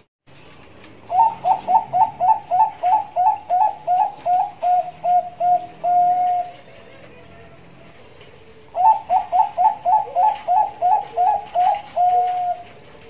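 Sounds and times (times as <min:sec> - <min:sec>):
dove cooing: 0:01.1 - 0:13.0.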